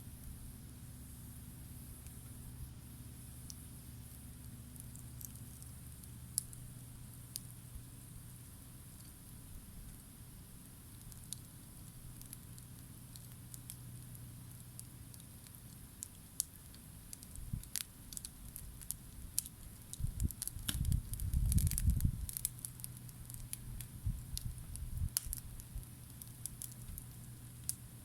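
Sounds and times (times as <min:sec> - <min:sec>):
steady low hum: 0:00.0 - 0:28.0
campfire crackling and popping: 0:03.4 - 0:07.8, 0:09.9 - 0:28.0.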